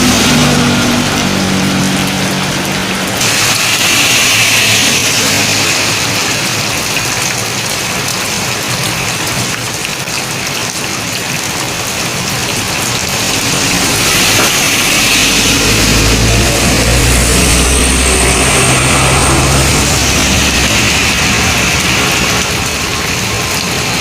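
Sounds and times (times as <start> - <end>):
vehicle engine approaching: 0.0 - 8.5, 11.4 - 24.0
steady rain falling: 0.0 - 24.0.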